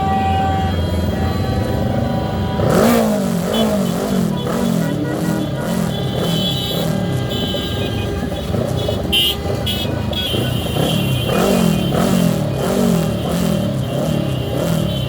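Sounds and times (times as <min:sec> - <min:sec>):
motorcycle and car engines revving: 0:01.0 - 0:15.0.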